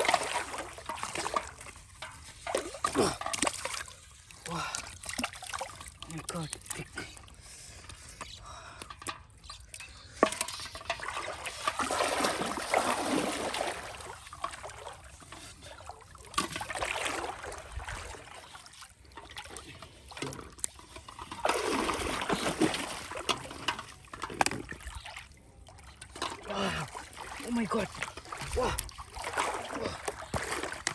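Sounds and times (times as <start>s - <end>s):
water splashing and trickling: 0.0s - 30.9s.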